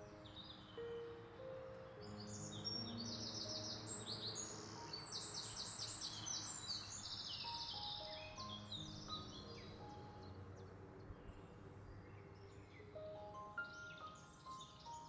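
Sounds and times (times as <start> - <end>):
small birds chirping: 0.0 - 15.0
soft background music: 0.0 - 15.0.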